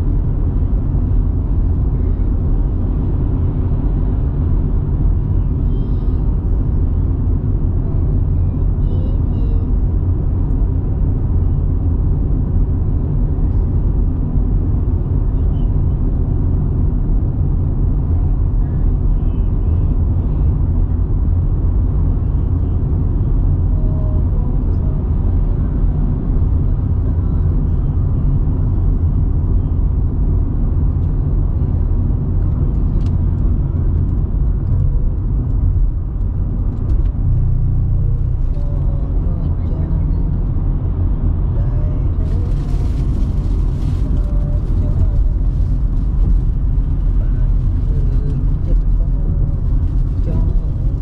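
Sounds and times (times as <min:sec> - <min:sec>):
car engine rumble: 0:00.0 - 0:51.0
tyre road noise: 0:00.0 - 0:51.0.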